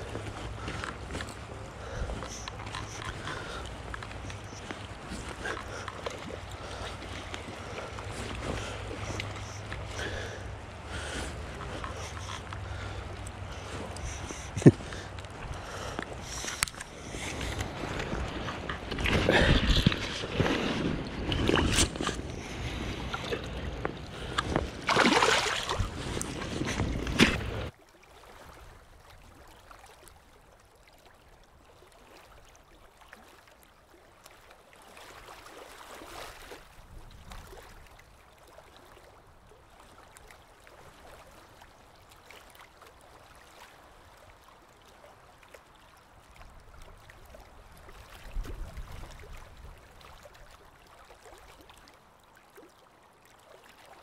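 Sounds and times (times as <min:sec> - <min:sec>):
faint flow of small river: 0:00.0 - 0:54.0
shallow river water rushing: 0:00.0 - 0:54.0.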